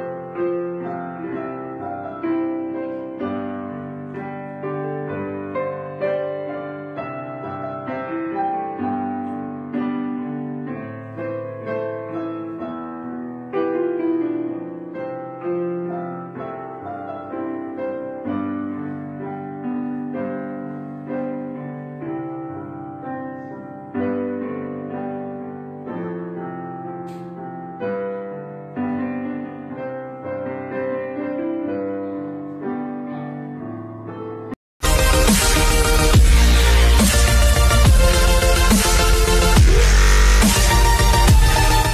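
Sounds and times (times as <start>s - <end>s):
gentle piano music: 0.0s - 34.6s.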